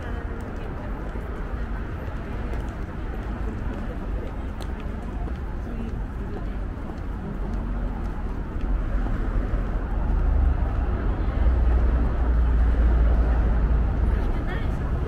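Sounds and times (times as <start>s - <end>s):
city street noise: 0.0s - 15.0s
vehicle deep rumble: 0.0s - 15.0s.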